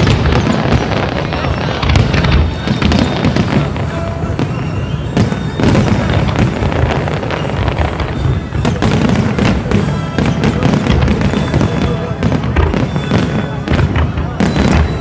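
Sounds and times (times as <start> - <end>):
fireworks bursts and crackle: 0.0 - 15.0.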